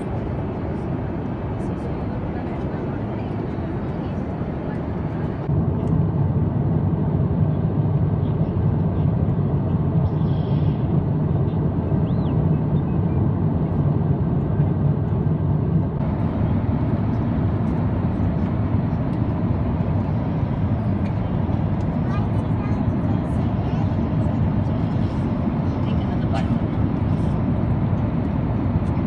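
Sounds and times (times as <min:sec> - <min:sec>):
airplane cabin drone: 0:00.0 - 0:29.0.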